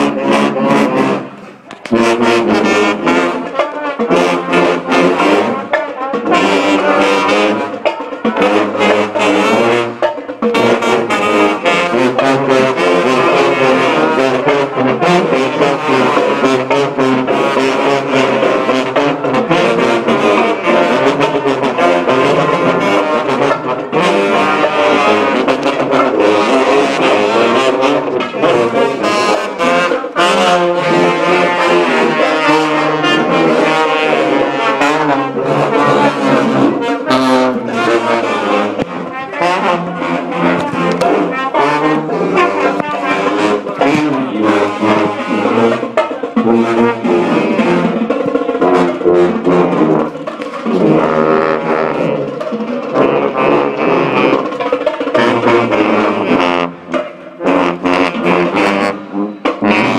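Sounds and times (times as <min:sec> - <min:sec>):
brass band playing: 0:00.0 - 0:59.9
tenor drum beating: 0:00.0 - 0:59.9.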